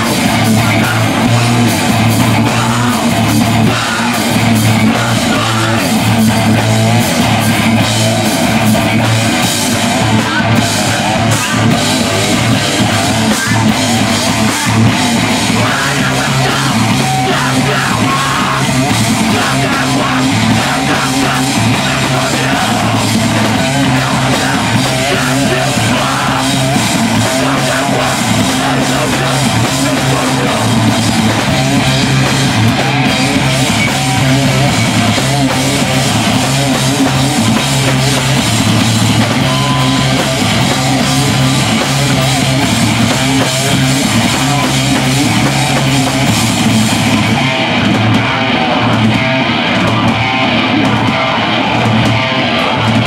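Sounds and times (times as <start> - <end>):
live metal band playing: 0.0 - 53.0.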